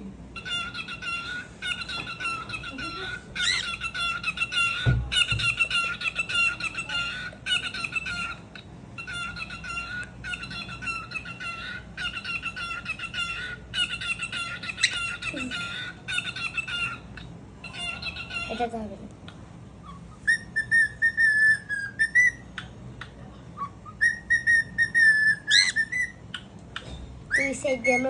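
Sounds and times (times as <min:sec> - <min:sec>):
cockatiel chattering and squawking: 0:00.4 - 0:18.8, 0:19.8 - 0:22.7, 0:23.6 - 0:26.5.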